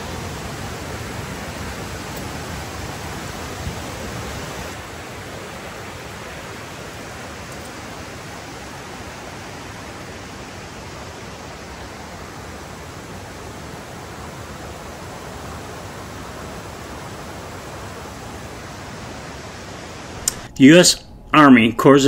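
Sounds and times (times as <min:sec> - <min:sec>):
stream rushing over rocks: 0:00.0 - 0:20.4.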